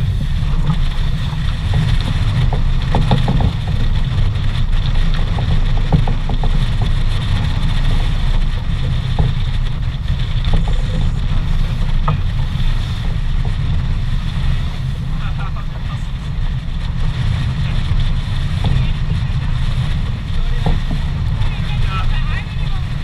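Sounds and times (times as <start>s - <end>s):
water rushing along boat hull: 0.0s - 23.0s
wind buffeting microphone: 0.0s - 23.0s.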